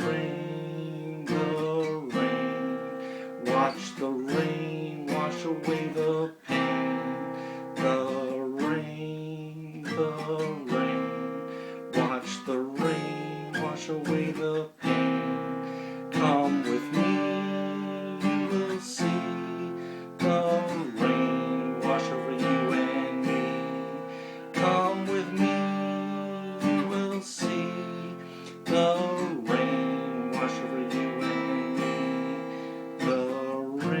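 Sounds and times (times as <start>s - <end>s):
acoustic guitar strumming chords: 0.0s - 34.0s.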